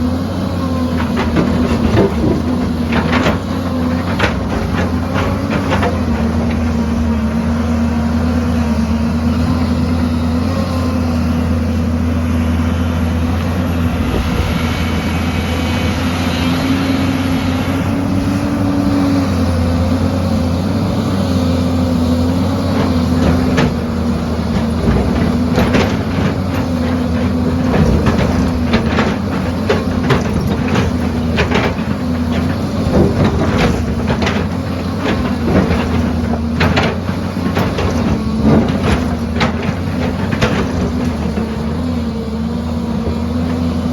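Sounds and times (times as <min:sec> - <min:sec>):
heavy machine diesel engine: 0:00.0 - 0:43.9.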